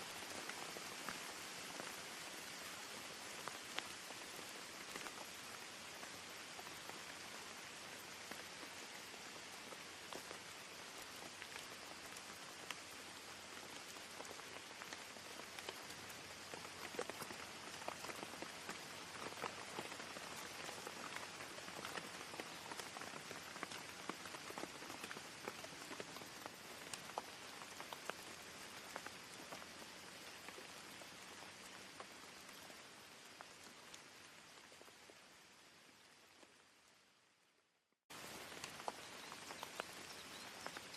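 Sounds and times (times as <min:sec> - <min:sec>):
rain hissing: 0:00.0 - 0:37.5, 0:38.1 - 0:40.9.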